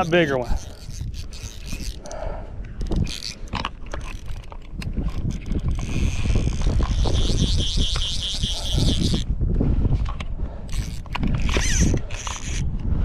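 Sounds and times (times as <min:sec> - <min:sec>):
fishing reel buzzing: 0:00.0 - 0:09.3, 0:10.1 - 0:12.8
wind buffeting microphone: 0:00.0 - 0:13.0.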